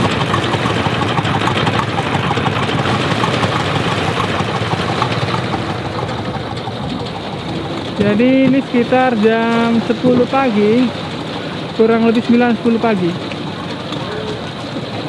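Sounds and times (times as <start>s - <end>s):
boat engine clattering: 0.0s - 15.0s.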